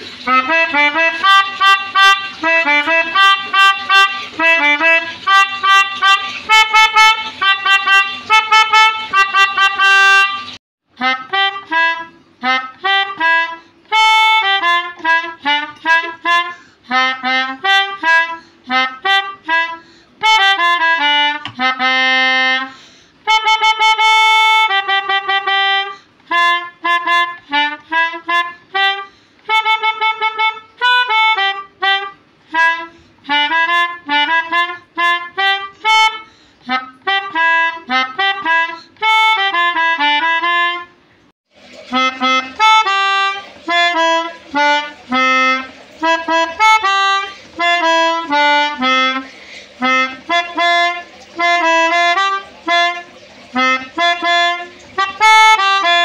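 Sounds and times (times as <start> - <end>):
melodica melody: 0.0 - 41.1, 41.7 - 56.0.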